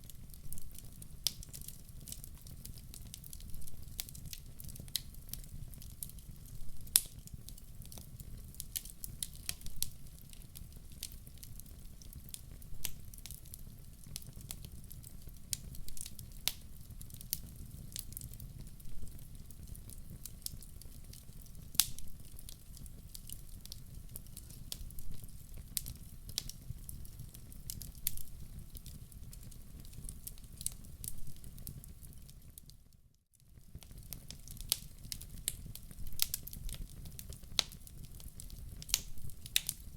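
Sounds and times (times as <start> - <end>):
low fire rumble: 0.0 - 32.5, 33.6 - 39.9
wood fire crackling and popping: 0.0 - 39.9.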